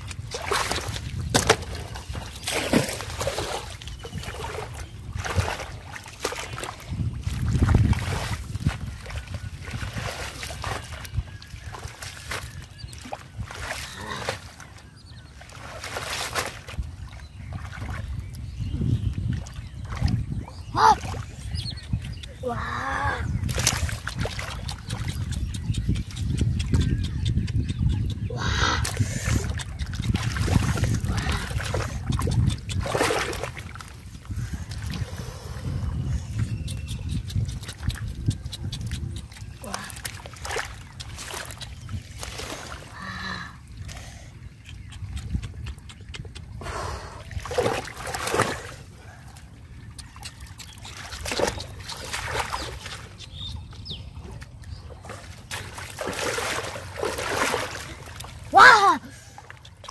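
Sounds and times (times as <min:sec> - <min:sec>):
hands splashing in muddy water: 0:00.0 - 0:18.3, 0:23.4 - 0:27.7, 0:28.4 - 0:35.2, 0:36.3 - 0:43.1, 0:44.6 - 0:53.4, 0:54.3 - 0:58.8.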